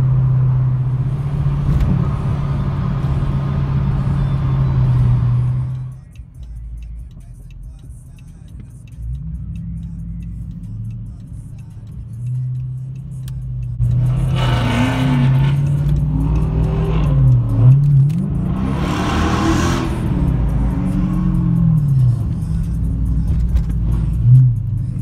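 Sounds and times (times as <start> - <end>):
car engine accelerating: 0.0 - 6.2, 8.5 - 25.0.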